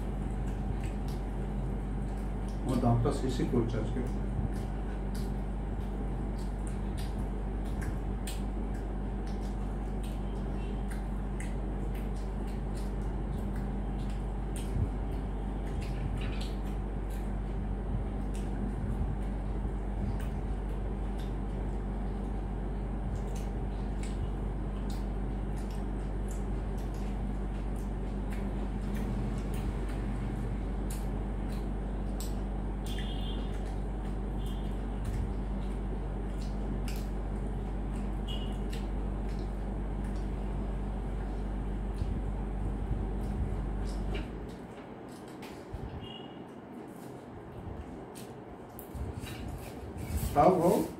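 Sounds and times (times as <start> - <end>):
crunching and chewing food: 0.0 - 50.9
low electrical hum: 0.0 - 50.9.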